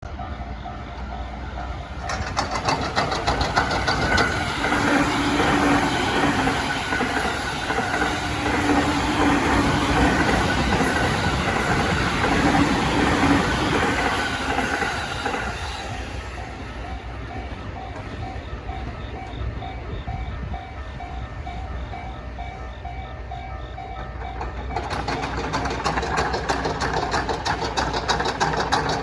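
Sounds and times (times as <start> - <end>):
crossing warning bell ringing: 0.0 - 29.0
train wheels clattering on rail joints: 1.6 - 29.0.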